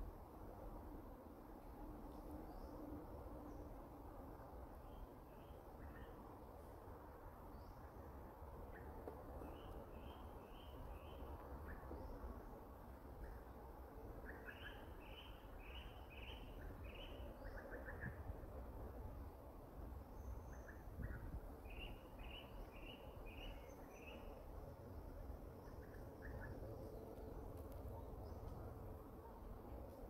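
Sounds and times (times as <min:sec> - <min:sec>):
faint outdoor background noise: 0:00.0 - 0:30.0.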